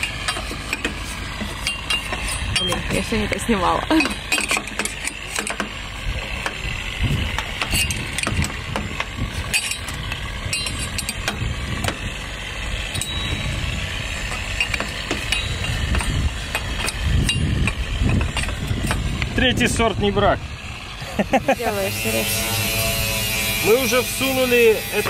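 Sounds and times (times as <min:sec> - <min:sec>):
steady low rumble: 0:00.0 - 0:23.6.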